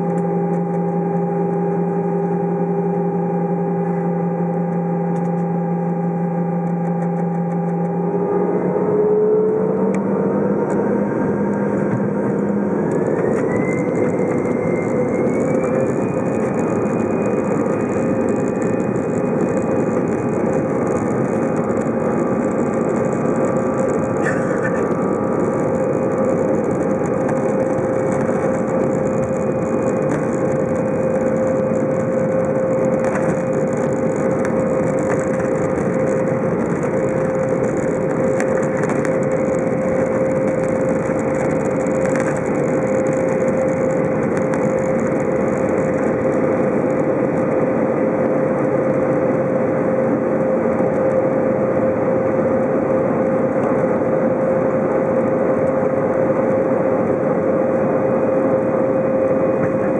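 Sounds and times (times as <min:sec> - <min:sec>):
jet engine rumble in cabin: 0:00.0 - 0:59.9
jet engine whine rising in pitch: 0:00.0 - 0:59.9.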